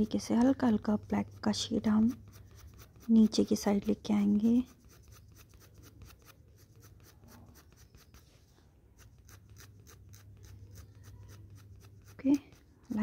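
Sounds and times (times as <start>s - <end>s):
pencil scratching on paper: 0.0s - 13.0s.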